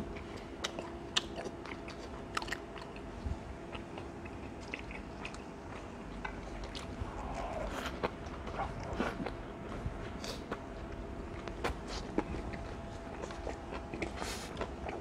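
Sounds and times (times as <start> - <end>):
person chewing pizza: 0.0 - 15.0.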